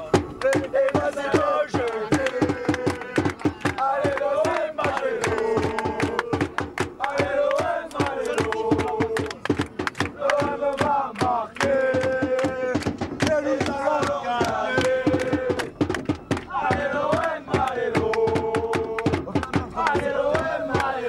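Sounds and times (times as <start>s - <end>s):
crowd chanting in unison: 0.0s - 21.0s
percussive drum beats: 0.0s - 21.0s.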